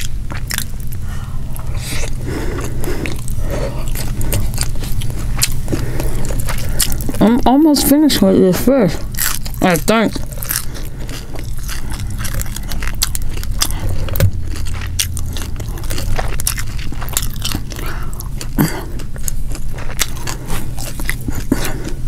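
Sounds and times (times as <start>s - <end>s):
chewing with wet clicks: 0.0s - 7.8s, 9.0s - 22.0s
steady low hum: 0.0s - 22.0s.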